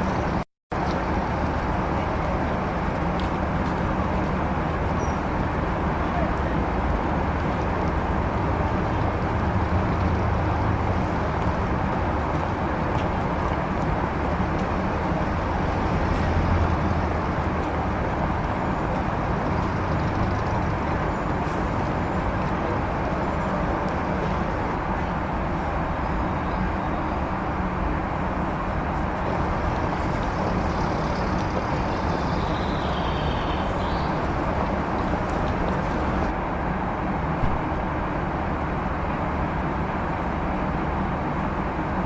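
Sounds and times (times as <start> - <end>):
low rumble of motor traffic: 0.0 - 42.0
street noise: 0.0 - 42.0.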